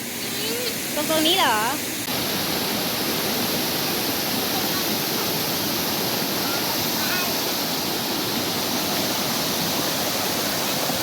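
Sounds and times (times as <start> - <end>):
waterfall pouring and splashing: 0.0 - 11.0.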